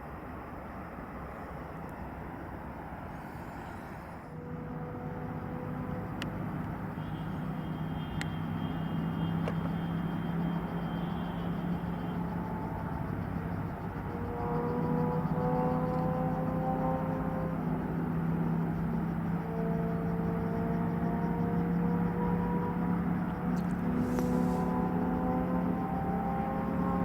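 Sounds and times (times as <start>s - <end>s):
distant jet engine rumble: 0.0s - 27.0s
steady low hum: 0.0s - 27.0s.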